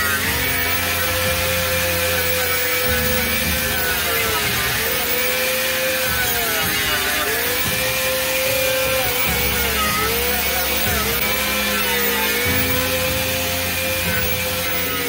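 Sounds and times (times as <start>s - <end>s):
angle grinder grinding wood: 0.0s - 15.0s.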